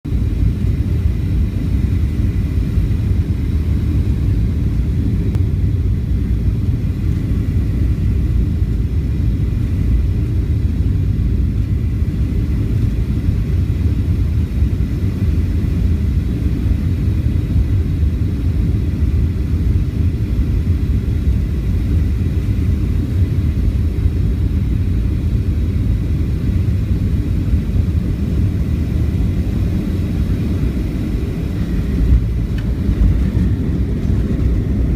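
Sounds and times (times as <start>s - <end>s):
airplane cabin engine rumble: 0.0s - 34.9s.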